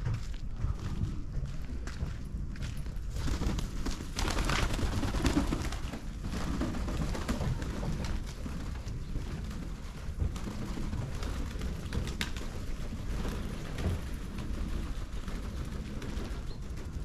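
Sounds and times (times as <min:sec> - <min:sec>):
steady low rumble: 0:00.0 - 0:15.2
pigeons flapping wings: 0:02.9 - 0:17.0.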